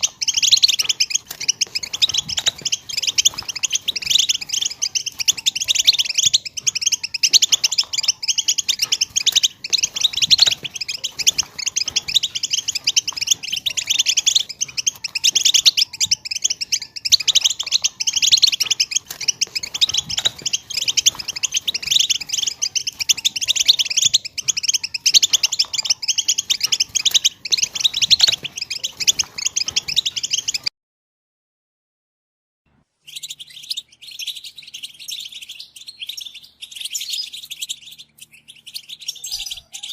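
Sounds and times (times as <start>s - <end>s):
goldfinch twittering song: 0.0s - 30.7s, 33.0s - 39.9s.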